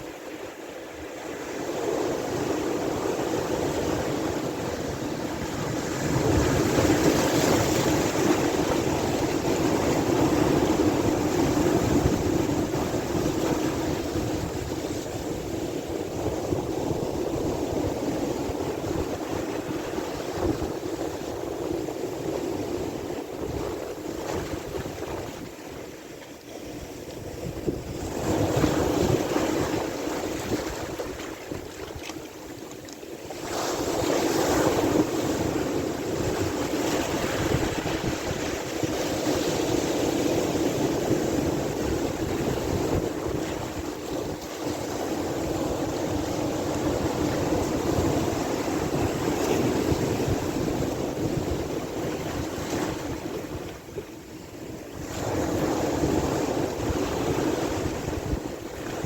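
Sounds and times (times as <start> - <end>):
sea waves washing in: 0.0 - 59.0
wind buffeting microphone: 1.7 - 26.0, 26.6 - 59.0.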